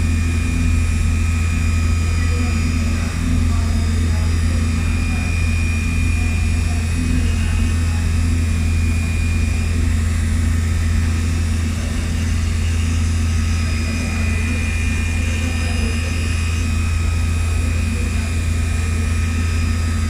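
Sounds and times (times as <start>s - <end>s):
faint high whine: 0.0s - 20.0s
milling machine hum: 0.0s - 20.0s.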